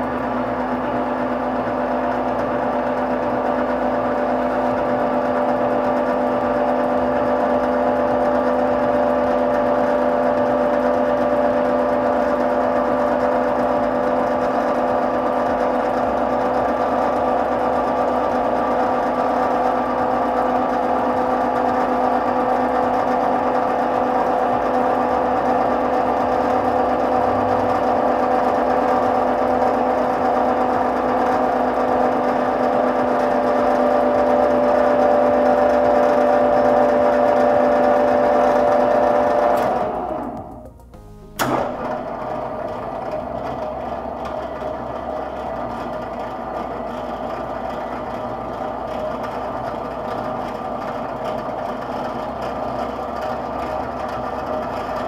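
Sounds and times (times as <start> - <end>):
planer motor whirring: 0.0 - 55.0.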